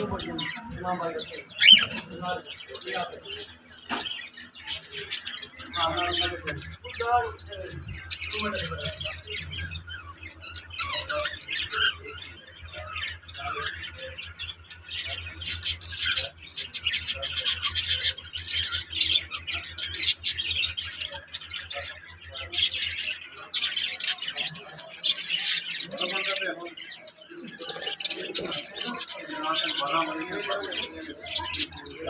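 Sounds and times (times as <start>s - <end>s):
small birds chirping and squawking: 0.0s - 32.0s.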